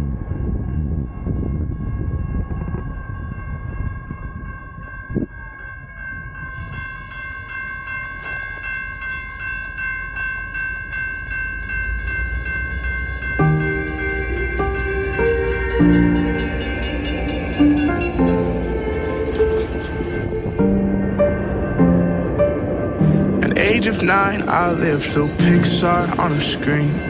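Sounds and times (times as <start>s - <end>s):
wind and wheel rumble: 0.0s - 10.0s, 11.1s - 27.0s
railroad crossing bell dinging: 0.0s - 27.0s.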